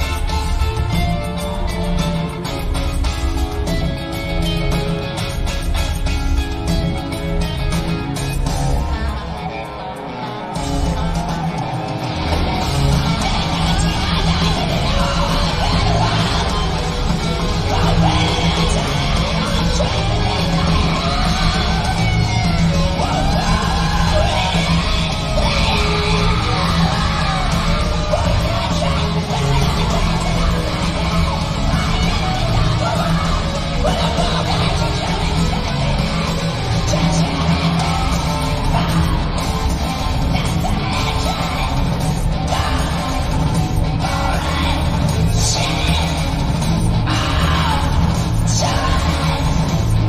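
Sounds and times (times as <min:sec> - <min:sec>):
rock band with electric guitars: 0:00.0 - 0:50.0.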